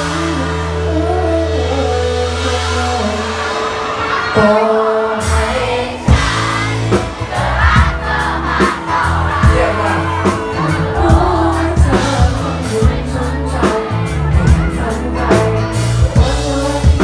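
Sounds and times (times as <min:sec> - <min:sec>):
crowd voices: 0:00.0 - 0:17.0
live band playing: 0:00.0 - 0:17.0
person singing: 0:00.0 - 0:17.0.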